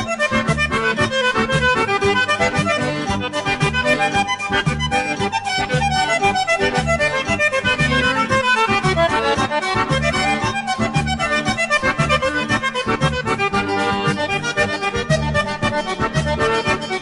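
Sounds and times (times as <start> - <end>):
background music with bass rhythm: 0.0 - 17.0.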